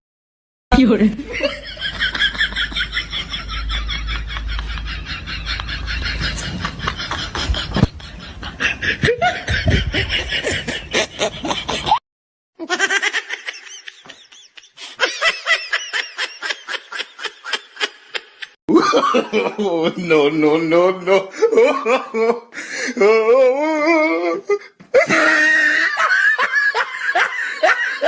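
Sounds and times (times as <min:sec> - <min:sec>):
person laughing hard: 0:01.3 - 0:12.0, 0:12.6 - 0:20.0, 0:21.1 - 0:28.0.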